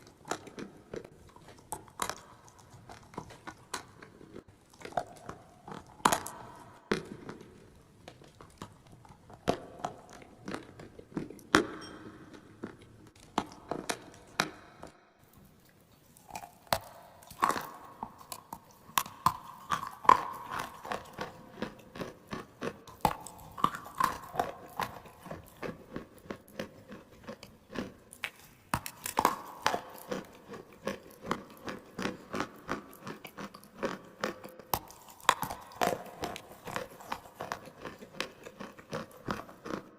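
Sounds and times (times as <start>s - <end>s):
clay being chewed: 0.0s - 39.9s.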